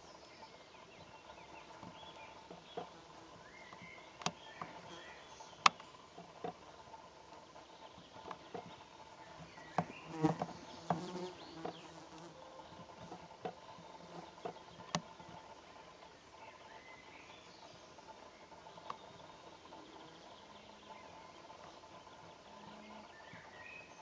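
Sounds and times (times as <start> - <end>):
soft steady buzz: 0.0 - 24.0.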